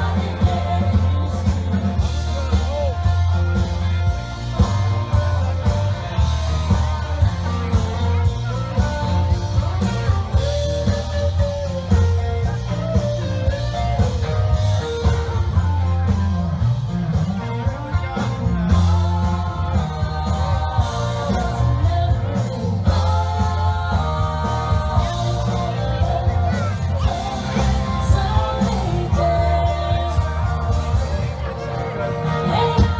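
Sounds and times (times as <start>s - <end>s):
rock song with sung vocal: 0.0s - 32.9s.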